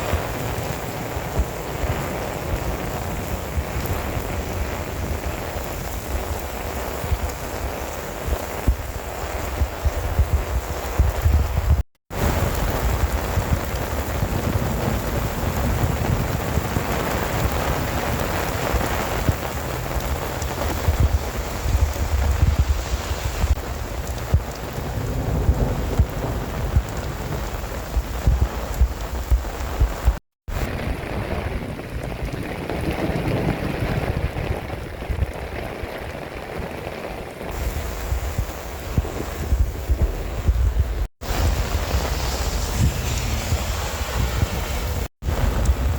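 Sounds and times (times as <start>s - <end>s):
low thunder rumble: 0.0s - 36.1s, 37.5s - 45.9s
heavy rain pouring: 0.0s - 45.9s
wind buffeting microphone: 0.0s - 45.9s.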